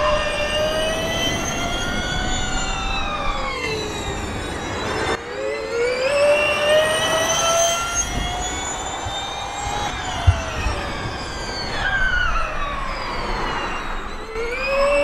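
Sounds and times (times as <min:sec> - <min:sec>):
electric car drivetrain whining: 0:00.0 - 0:15.0.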